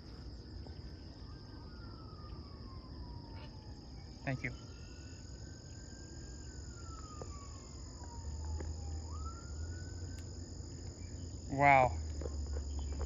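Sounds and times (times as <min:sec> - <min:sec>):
distant siren wailing: 0:00.0 - 0:13.0
high-pitched insect drone: 0:00.0 - 0:13.0.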